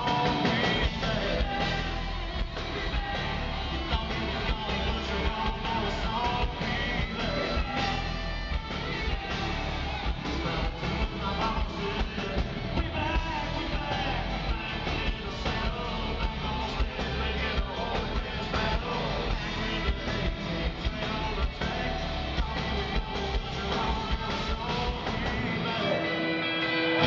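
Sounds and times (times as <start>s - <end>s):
man singing into a microphone: 0.0s - 8.3s, 10.2s - 27.0s
live country rock band: 0.0s - 27.0s.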